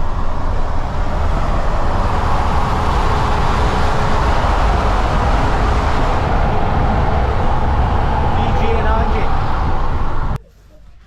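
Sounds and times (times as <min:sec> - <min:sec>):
road vehicle running: 0:00.0 - 0:11.0.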